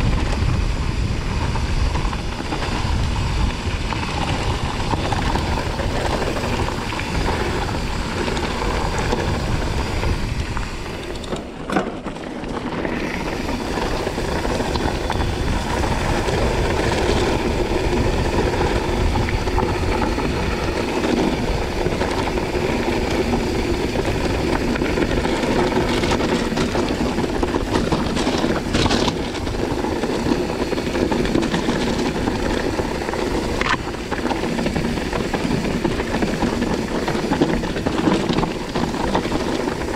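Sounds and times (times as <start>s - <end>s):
wind on microphone: 0.0s - 11.4s, 12.6s - 39.9s
bike rattling: 0.0s - 39.9s.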